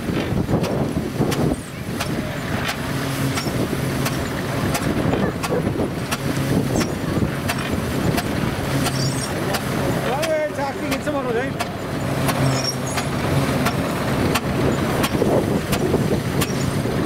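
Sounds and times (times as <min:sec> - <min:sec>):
engine running: 0:00.0 - 0:17.0
sharp engine knocks: 0:00.0 - 0:17.0.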